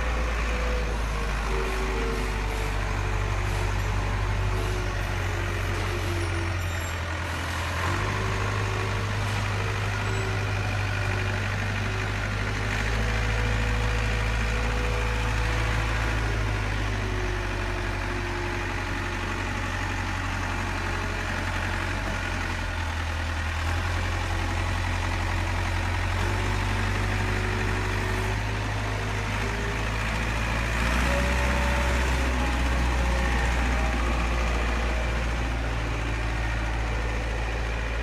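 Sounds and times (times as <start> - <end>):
model loader diesel engine drone: 0.0 - 38.0.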